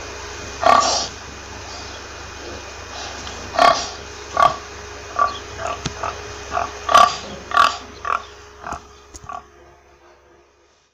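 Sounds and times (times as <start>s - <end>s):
pig grunting: 0.6s - 9.5s.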